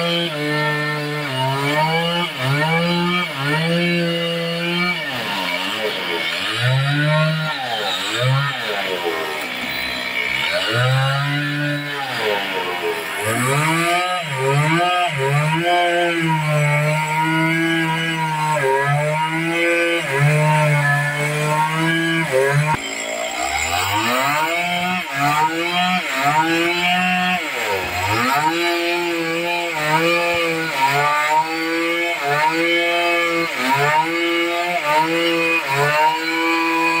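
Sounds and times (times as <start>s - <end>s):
chainsaw cutting log: 0.0s - 37.0s.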